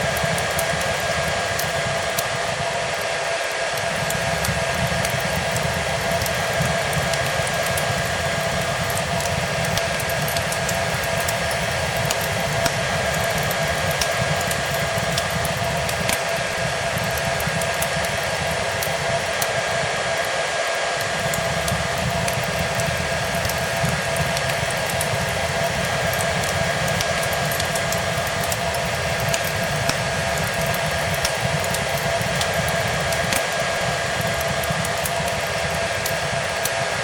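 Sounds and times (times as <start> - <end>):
fireplace crackling: 0.0 - 37.0
hair dryer running: 0.0 - 37.0.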